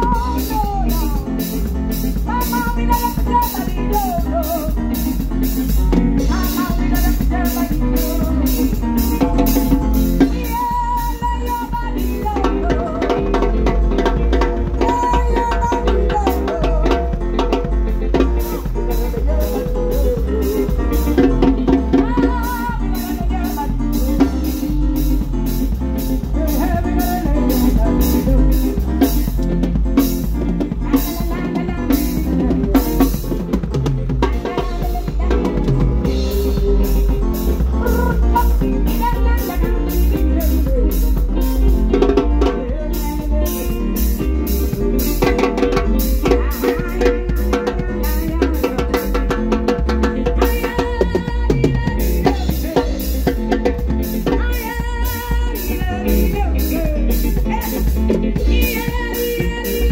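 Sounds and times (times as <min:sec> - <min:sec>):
drum kit playing: 0:00.0 - 0:59.9
electric bass: 0:00.0 - 0:59.9
woman singing through microphone: 0:00.0 - 0:59.9.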